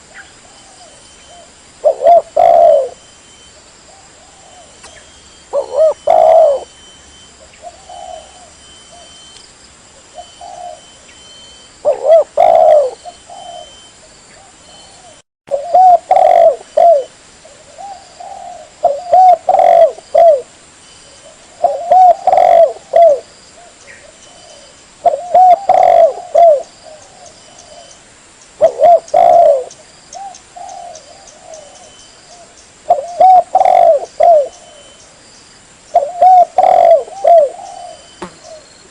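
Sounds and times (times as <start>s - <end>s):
dove cooing: 0.0s - 9.4s, 10.0s - 11.1s, 11.8s - 20.5s, 21.1s - 28.0s, 28.6s - 35.1s, 35.9s - 38.9s.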